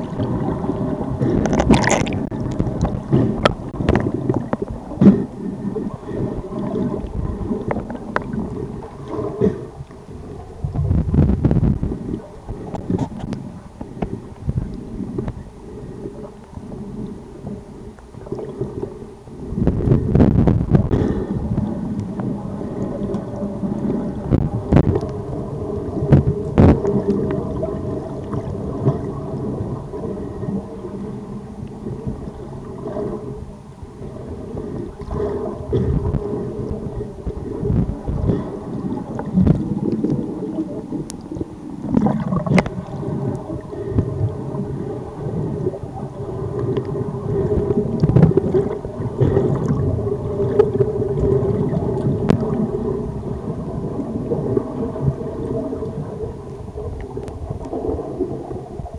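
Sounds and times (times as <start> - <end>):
water rumbling underwater: 0.0 - 58.9.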